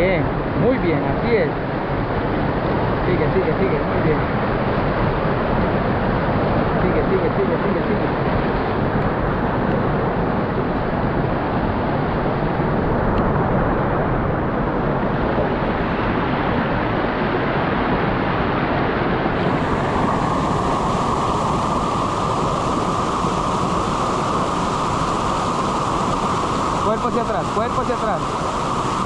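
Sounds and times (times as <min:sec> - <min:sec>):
waterfall rushing: 0:00.4 - 0:29.0.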